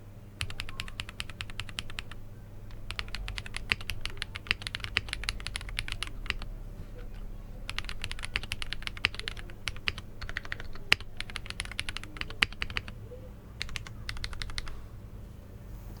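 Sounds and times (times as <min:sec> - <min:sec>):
mechanical keyboard typing: 0:00.4 - 0:13.0, 0:13.6 - 0:14.8.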